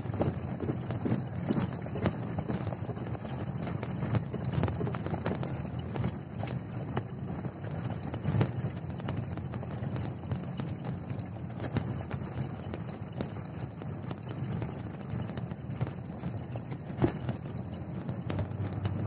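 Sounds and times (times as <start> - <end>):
irregular clicks and knocks: 0.0 - 19.0
wind rumbling on microphone: 0.0 - 19.0.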